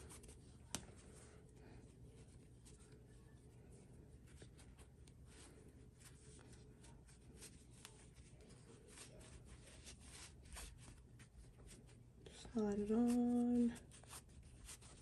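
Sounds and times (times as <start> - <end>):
quiet room hum: 0.0 - 15.0.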